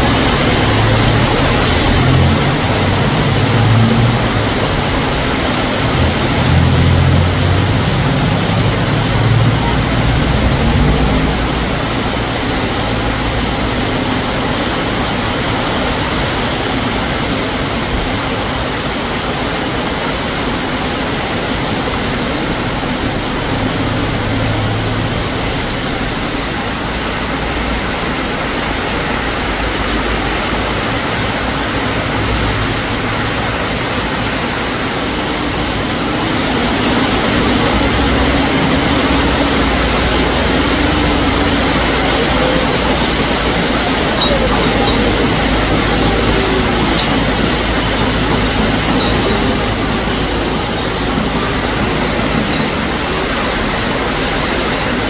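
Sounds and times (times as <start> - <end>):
heavy rain pouring: 0.0 - 55.0
vehicle engine humming: 0.0 - 55.0.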